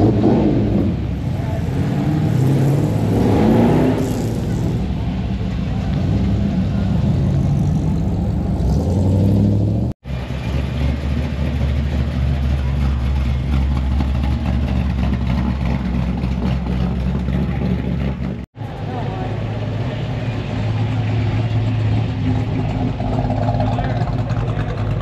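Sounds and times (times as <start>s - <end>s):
car engine idling: 4.0s - 25.0s.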